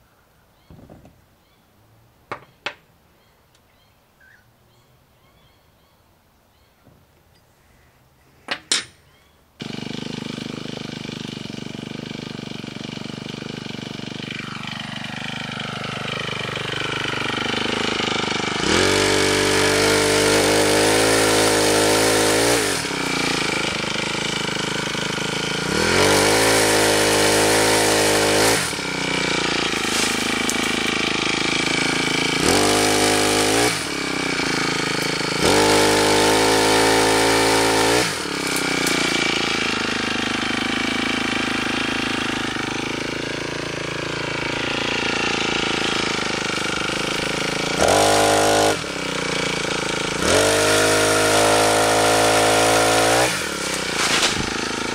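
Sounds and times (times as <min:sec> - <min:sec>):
brushcutter engine idling and revving: 0:09.6 - 0:54.9.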